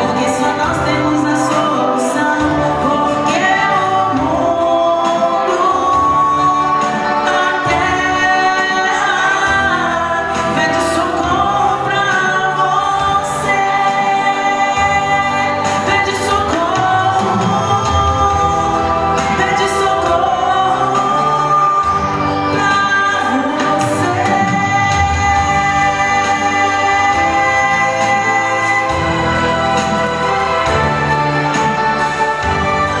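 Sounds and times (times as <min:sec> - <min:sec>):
choir singing with accompaniment: 0:00.0 - 0:33.0.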